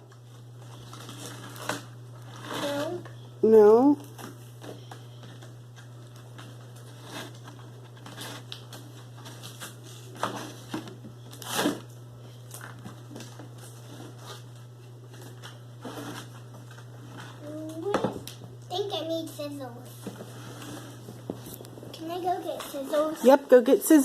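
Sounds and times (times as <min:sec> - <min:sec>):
plastic packaging rustling and crinkling: 0:00.2 - 0:03.1, 0:04.0 - 0:18.4, 0:19.9 - 0:23.6.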